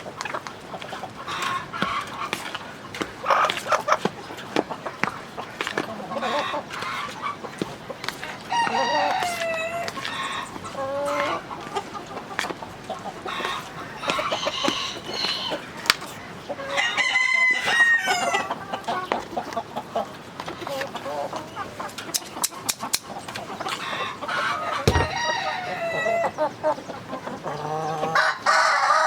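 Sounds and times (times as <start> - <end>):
chickens clucking: 0.1 - 28.3.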